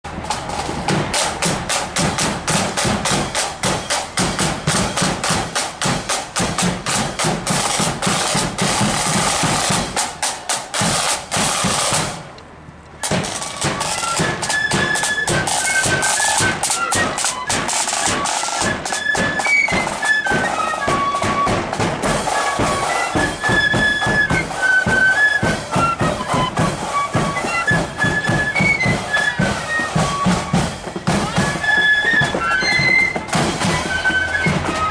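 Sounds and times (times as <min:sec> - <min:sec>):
snare and bass drums beating: 0:00.3 - 0:12.3, 0:13.0 - 0:34.9
flutes playing high melody: 0:02.0 - 0:12.1, 0:13.0 - 0:34.9.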